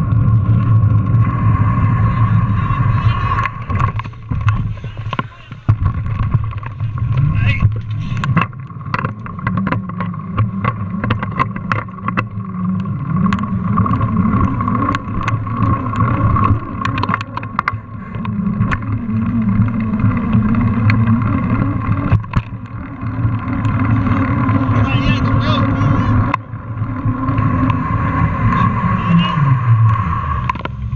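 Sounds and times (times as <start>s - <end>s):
bike rolling over paving: 0.0s - 30.9s.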